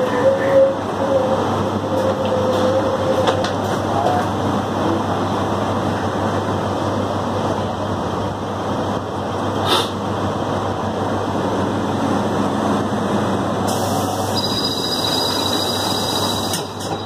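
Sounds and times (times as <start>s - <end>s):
train car rumble: 0.0s - 17.0s.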